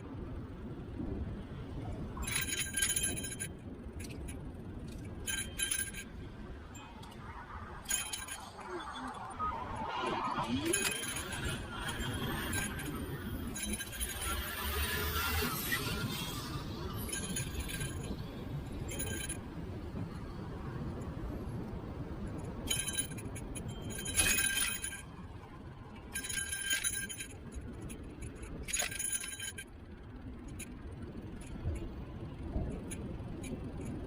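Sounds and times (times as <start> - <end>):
scooter road rumble: 0.0 - 34.0
metallic clinking rattles: 2.2 - 19.7, 22.3 - 34.0.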